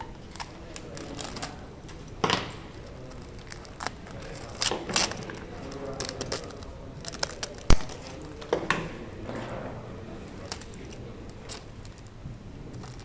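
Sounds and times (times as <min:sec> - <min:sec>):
tools clicking and crinkling: 0:00.0 - 0:09.1, 0:10.2 - 0:13.0.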